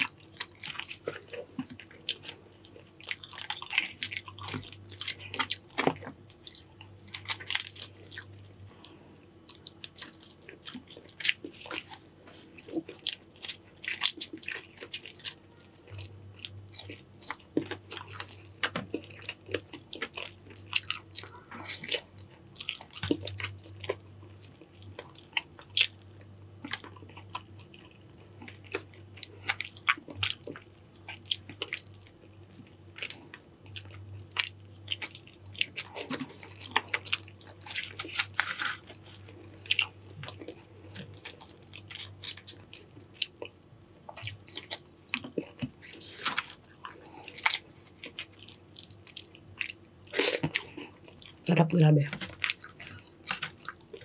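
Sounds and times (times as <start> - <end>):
person biting and chewing: 0.0 - 8.8, 9.4 - 43.5, 44.1 - 51.4, 52.2 - 54.0.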